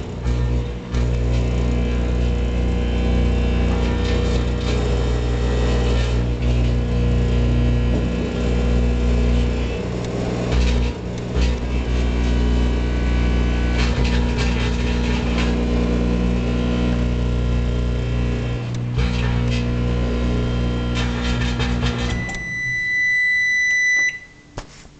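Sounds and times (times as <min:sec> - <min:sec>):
plasma buzzing and crackling: 0:00.0 - 0:22.5
microwave oven humming: 0:00.0 - 0:24.6.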